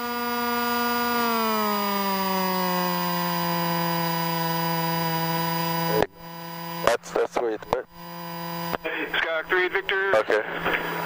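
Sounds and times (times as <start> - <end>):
aircraft engine whine: 0.0 - 11.0.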